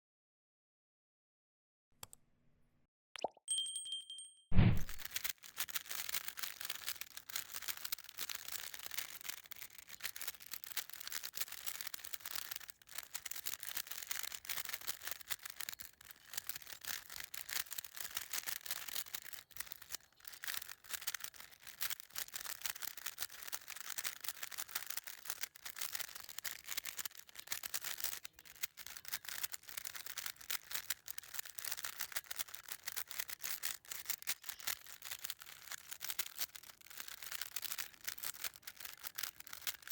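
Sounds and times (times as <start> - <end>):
plastic puzzle cube clicking: 4.9 - 39.9.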